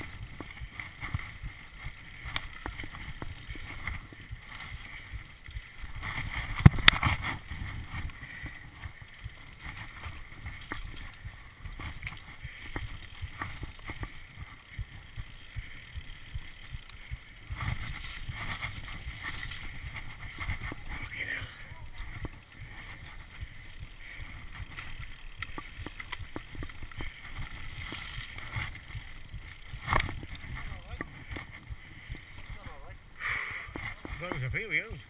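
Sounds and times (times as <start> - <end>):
bike rattles and clicks: 0.0 - 35.0
bike tyres rumbling on dirt: 0.0 - 35.0.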